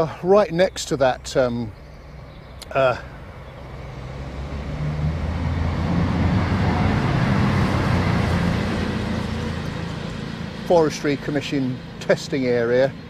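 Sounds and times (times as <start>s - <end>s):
train passing rumble: 0.0s - 13.0s.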